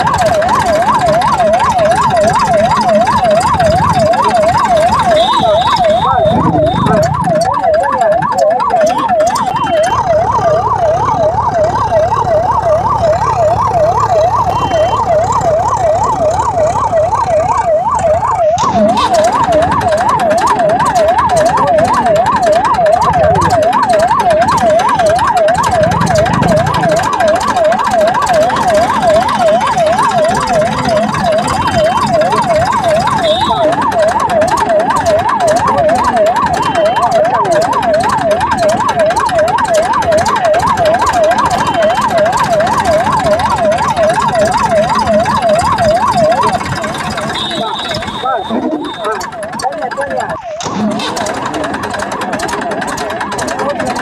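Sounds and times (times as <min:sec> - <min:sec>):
electronic siren warbling: 0:00.0 - 0:54.0.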